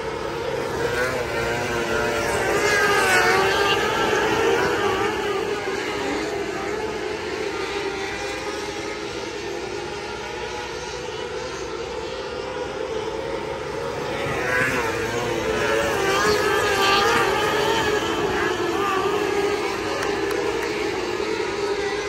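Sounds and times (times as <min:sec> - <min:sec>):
racing cars high-revving engines: 0:00.0 - 0:22.0.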